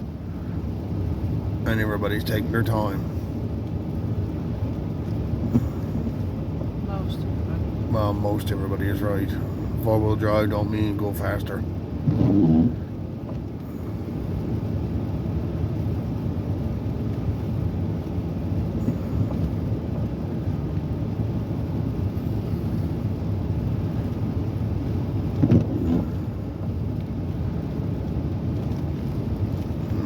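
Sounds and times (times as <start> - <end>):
car tyres and engine rumble: 0.0 - 30.0.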